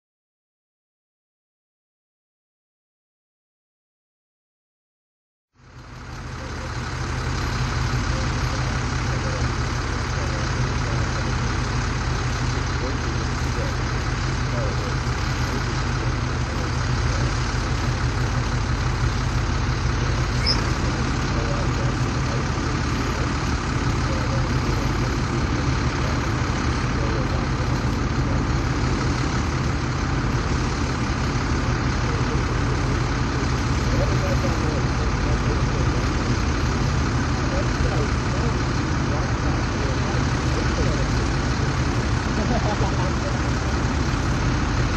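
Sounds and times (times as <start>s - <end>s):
locomotive engine droning: 5.6s - 44.9s.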